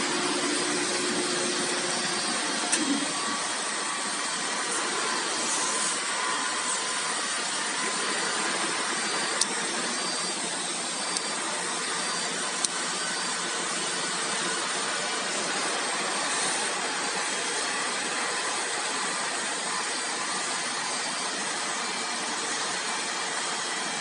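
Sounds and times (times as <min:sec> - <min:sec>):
vacuum blower rushing hum: 0:00.0 - 0:24.0.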